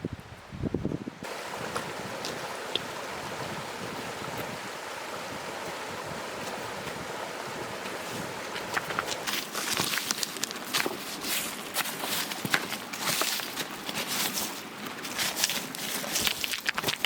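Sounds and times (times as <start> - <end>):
stream water rushing: 0.6 - 17.0.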